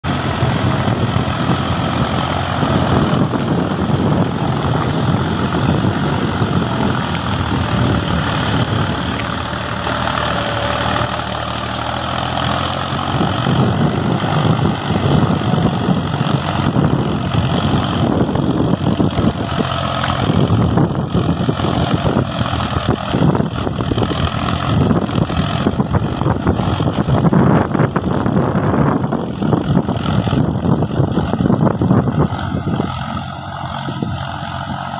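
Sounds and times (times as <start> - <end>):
tractor diesel engine under load: 0.0 - 34.9.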